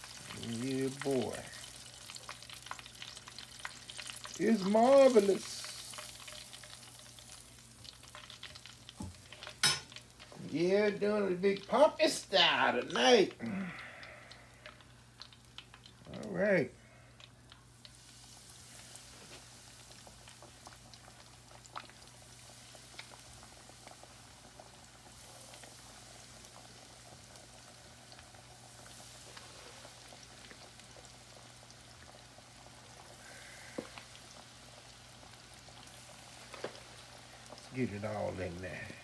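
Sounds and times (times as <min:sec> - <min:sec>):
oil popping: 0:00.0 - 0:16.4, 0:17.1 - 0:38.8
hot oil sizzling and bubbling: 0:00.0 - 0:39.0.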